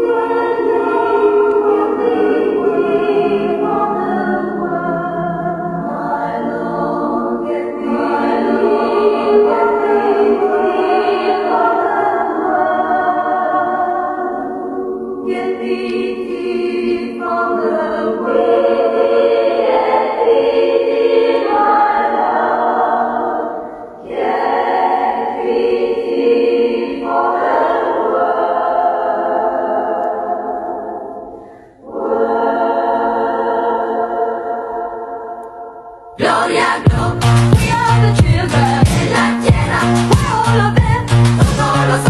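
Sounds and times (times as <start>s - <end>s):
choir singing sustained chords: 0.0s - 42.0s.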